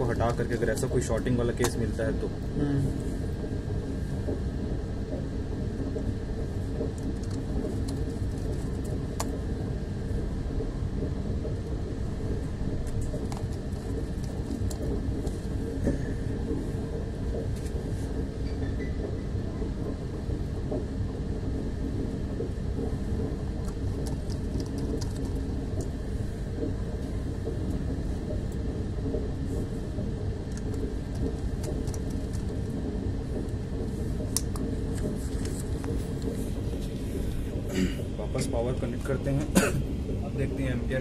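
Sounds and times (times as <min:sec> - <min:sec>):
low background rumble: 0:00.0 - 0:41.0.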